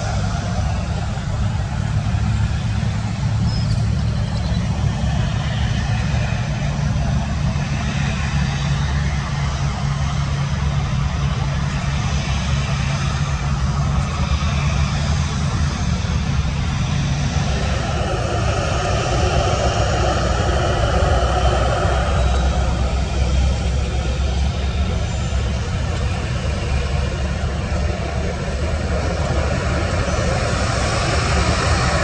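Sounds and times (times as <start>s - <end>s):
airliner engines rumbling: 0.0s - 32.0s.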